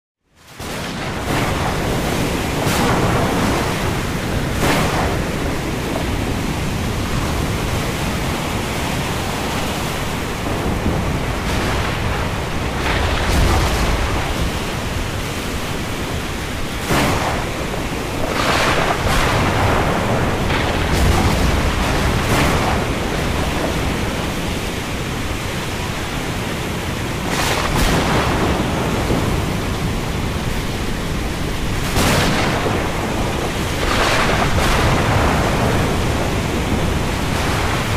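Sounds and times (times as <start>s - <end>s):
rushing wind and rain: 0.2s - 37.9s
sharp thunder cracks: 0.6s - 25.3s, 27.2s - 37.9s
deep rolling thunder rumbles: 0.6s - 37.9s.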